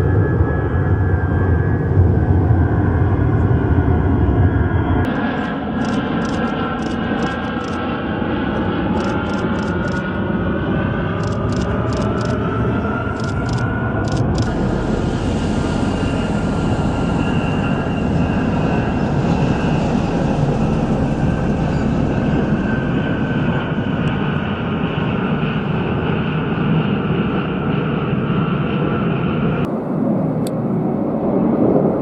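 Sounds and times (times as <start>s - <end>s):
faint high engine whine: 0.0s - 32.0s
jet aircraft roar: 0.0s - 32.0s.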